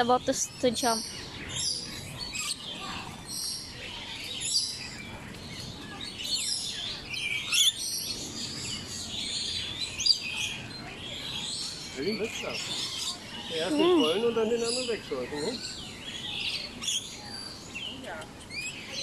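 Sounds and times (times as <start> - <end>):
lorikeets chirping and squawking: 0.0 - 19.0.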